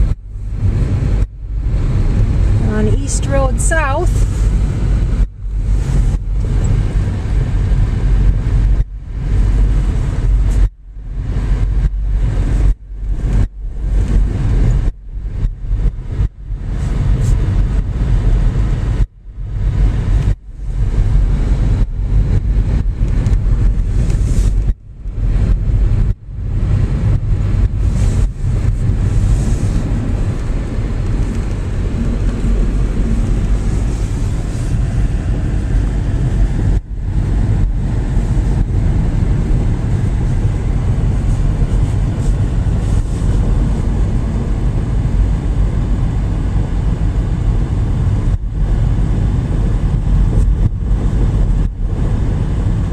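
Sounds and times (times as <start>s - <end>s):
car road and wind noise: 0.0s - 52.9s.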